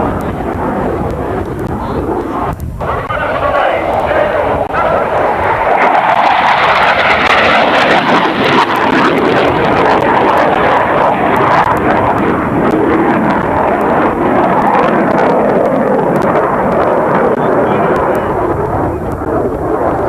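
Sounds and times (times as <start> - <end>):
aircraft engine noise: 0.0 - 20.0.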